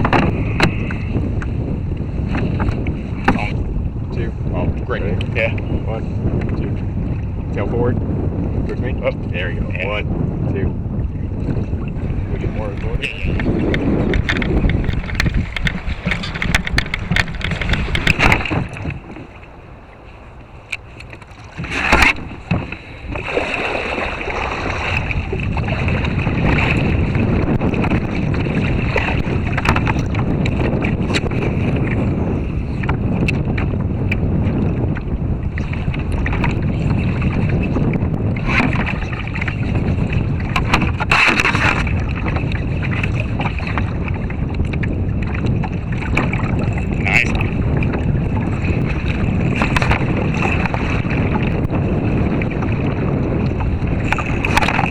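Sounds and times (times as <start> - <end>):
water lapping: 0.0 - 54.9
wind buffeting microphone: 0.0 - 54.9.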